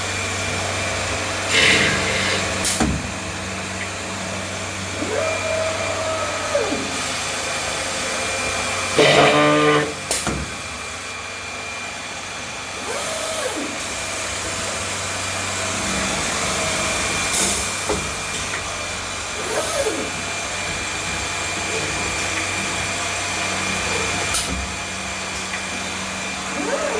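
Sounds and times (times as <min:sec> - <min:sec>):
woodworking machine humming and whining: 0:00.0 - 0:26.9.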